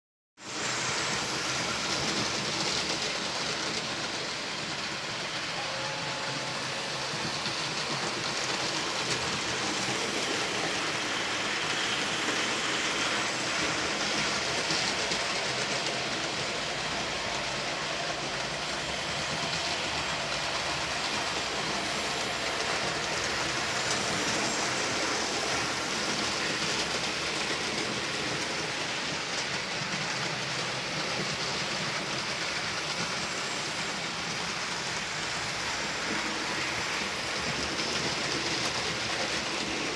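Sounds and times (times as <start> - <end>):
model train motor whirring: 0.5 - 39.9.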